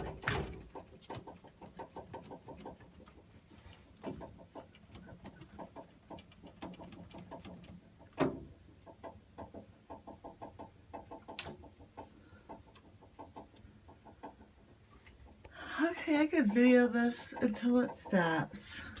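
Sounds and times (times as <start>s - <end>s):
water heater clucking ticks: 0.0s - 19.0s.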